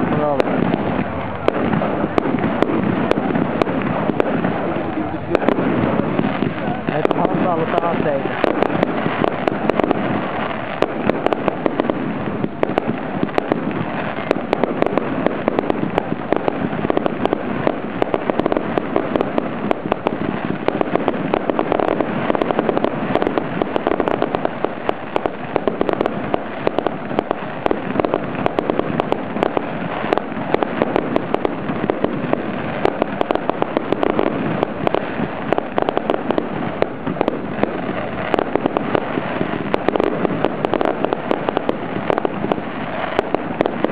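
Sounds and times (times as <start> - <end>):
fireworks cracking and popping: 0.0 - 43.9.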